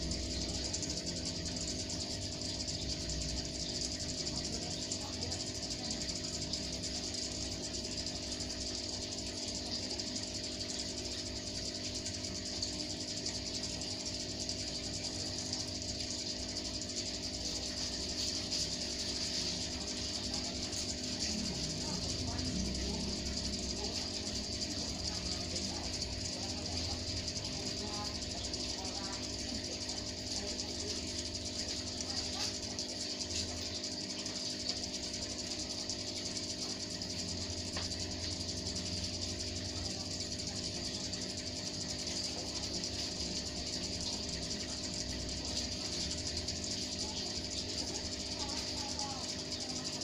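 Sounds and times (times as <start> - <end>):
aquarium pump humming: 0.0 - 50.0.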